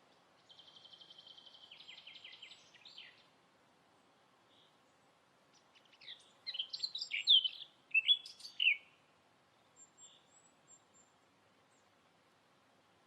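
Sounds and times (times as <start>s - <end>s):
songbird chirping: 0.0s - 12.6s.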